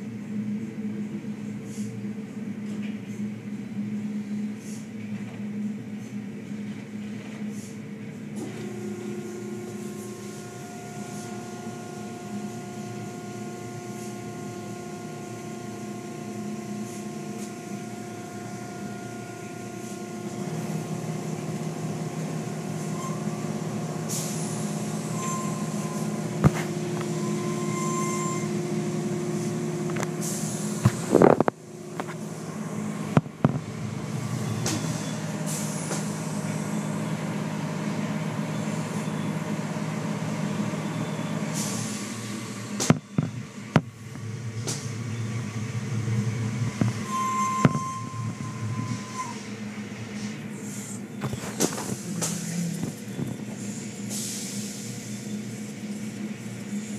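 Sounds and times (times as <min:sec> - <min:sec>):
car wash machinery hum: 0:00.0 - 0:56.9.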